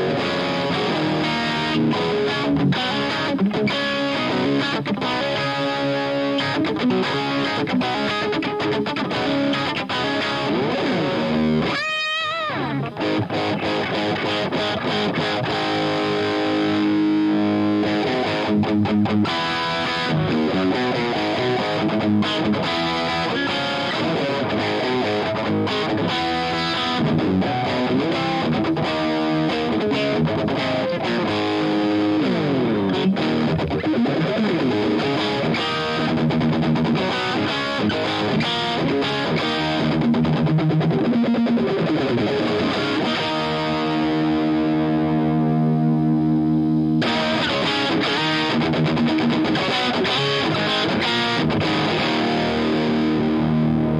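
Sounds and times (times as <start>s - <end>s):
distorted electric guitar: 0.0s - 53.9s.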